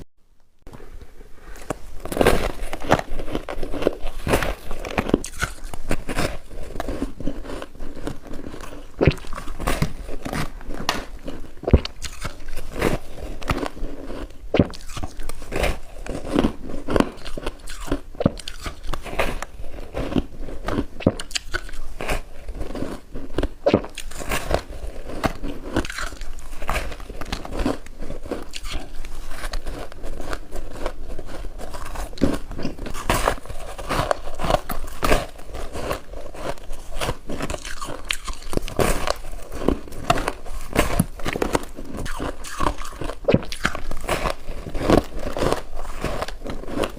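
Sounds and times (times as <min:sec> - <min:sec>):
person chewing crunchy ice: 0:01.6 - 0:46.9.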